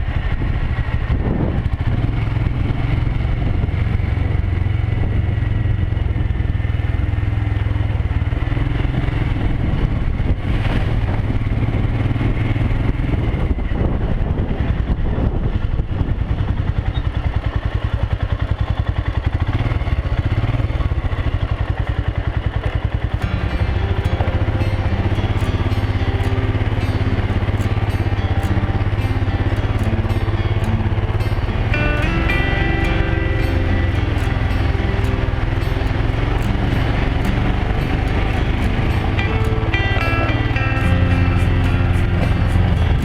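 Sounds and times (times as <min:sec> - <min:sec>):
motorcycle engine drone: 0:00.0 - 0:43.0
road and wind noise: 0:00.0 - 0:43.0.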